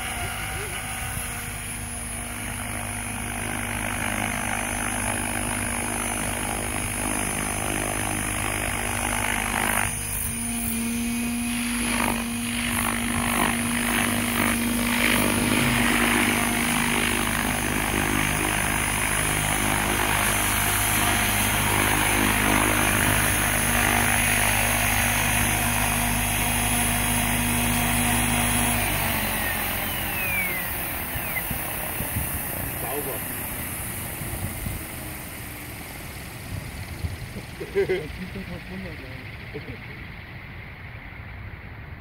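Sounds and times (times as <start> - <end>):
rc helicopter rotor and motor: 0.0 - 42.0
rotor spinning down whine: 0.0 - 42.0.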